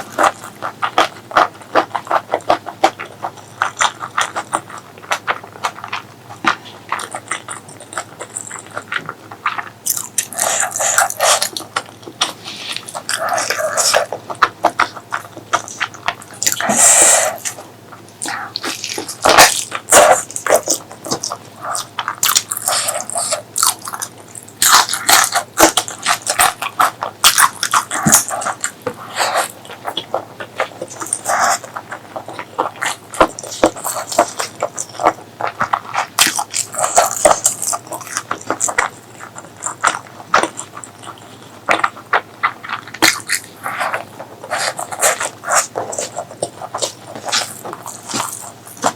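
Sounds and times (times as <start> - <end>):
wet chewing and lip-smacking: 0.0 - 48.9.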